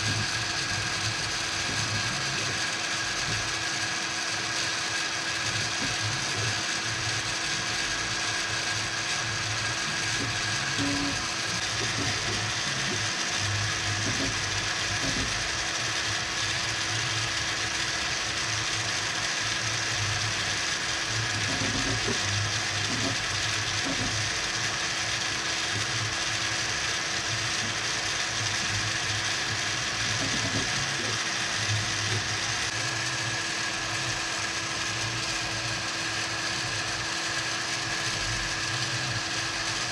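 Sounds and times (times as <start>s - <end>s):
cooling fans humming: 0.0s - 39.9s
stepper motors whirring: 0.0s - 39.9s.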